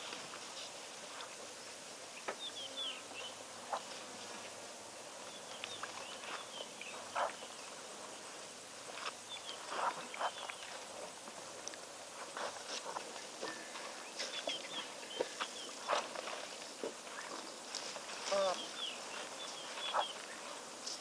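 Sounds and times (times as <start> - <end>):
outdoor background: 0.0 - 21.0.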